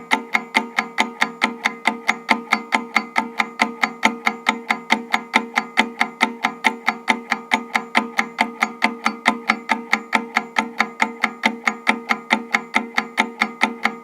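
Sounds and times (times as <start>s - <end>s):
wind-up timer ticking fast: 0.0s - 14.0s.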